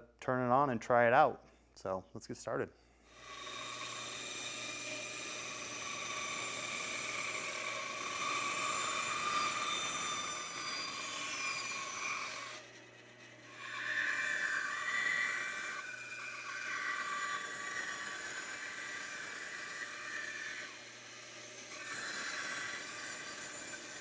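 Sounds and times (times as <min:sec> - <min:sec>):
band saw cutting a board: 0:03.1 - 0:24.0.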